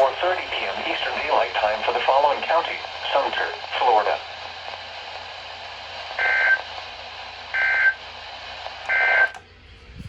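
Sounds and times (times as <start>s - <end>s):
faint radio hiss: 0.0s - 9.5s.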